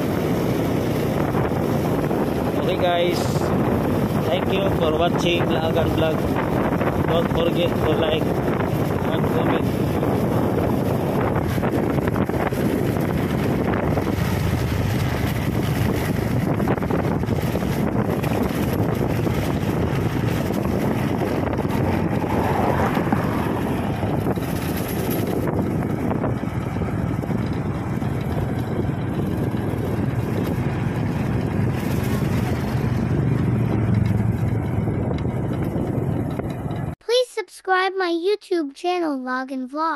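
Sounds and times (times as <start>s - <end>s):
motorcycle engine running: 0.0s - 37.0s
wind rushing over microphone: 0.0s - 37.0s.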